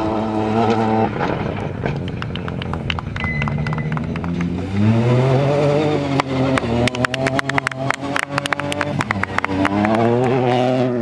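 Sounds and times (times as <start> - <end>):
rally car engine pulling hard: 0.0 - 11.0.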